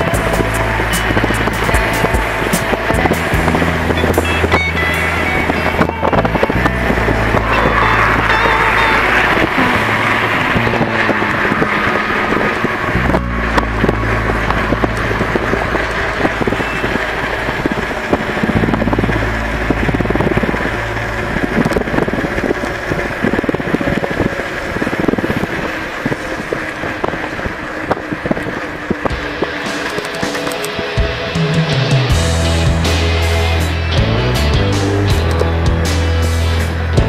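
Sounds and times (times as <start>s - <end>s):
low rumble: 0.0s - 29.9s, 31.0s - 37.0s
cars passing: 0.0s - 37.0s
tyre and road noise: 0.0s - 37.0s.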